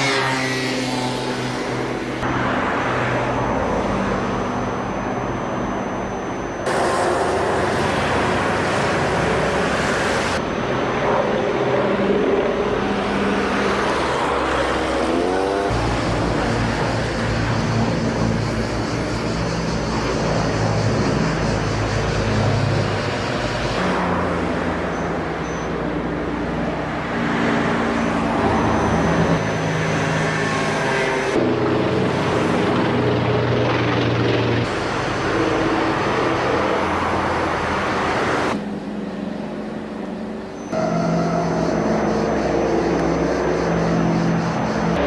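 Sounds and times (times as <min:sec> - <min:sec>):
propeller aircraft engines droning: 0:00.0 - 0:45.0.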